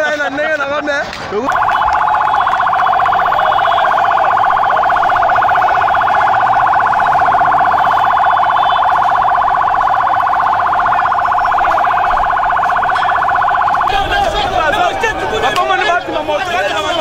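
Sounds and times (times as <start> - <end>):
siren pulsing: 1.5 - 17.0.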